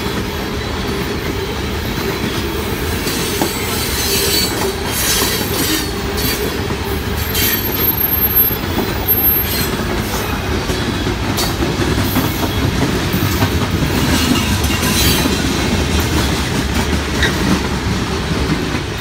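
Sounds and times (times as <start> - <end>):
sharp clacks of train wheels: 0.0 - 19.0
train wheels rumbling on rails: 0.0 - 19.0.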